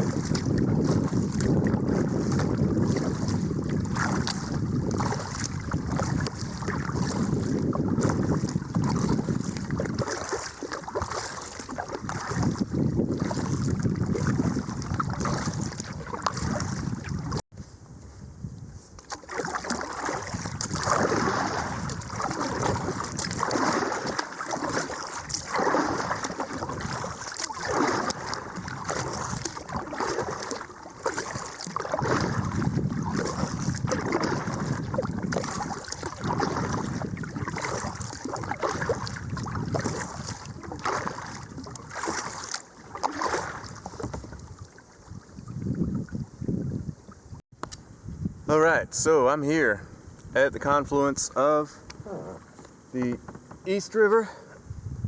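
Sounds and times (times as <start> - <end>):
paddle splashing in water: 0.0 - 17.4, 18.9 - 47.4
wind buffeting microphone: 0.0 - 51.2, 54.6 - 55.0.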